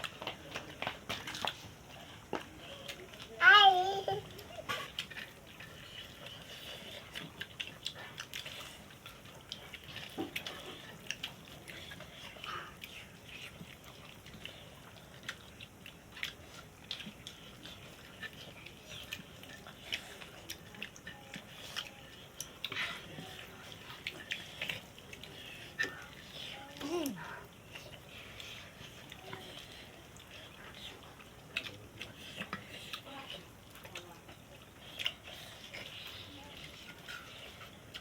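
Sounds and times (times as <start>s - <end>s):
chewing food: 0.0s - 38.0s.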